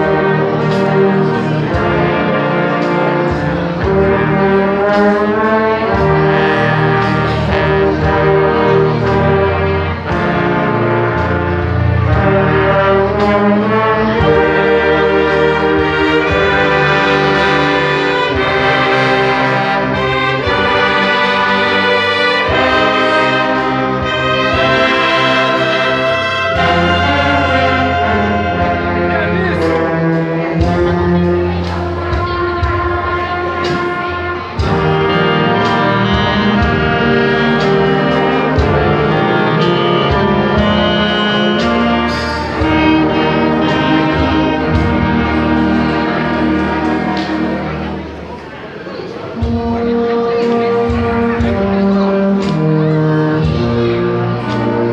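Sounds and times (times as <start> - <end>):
orchestra brass playing held chords: 0.0 - 54.9.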